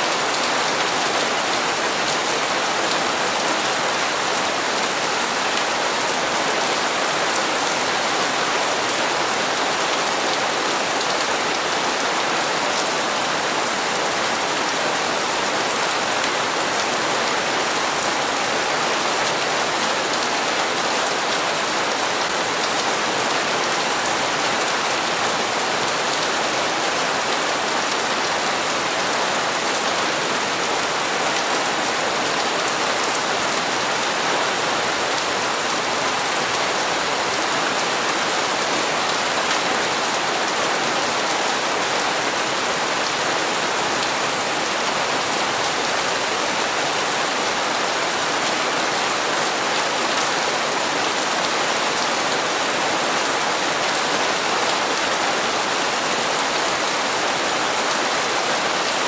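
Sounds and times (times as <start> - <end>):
rain on hard surfaces: 0.0 - 59.0.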